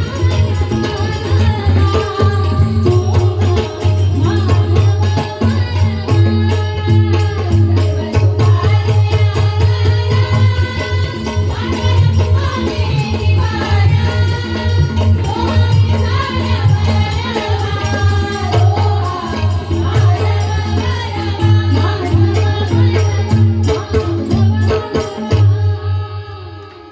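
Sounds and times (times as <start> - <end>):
drum beating: 0.0 - 25.8.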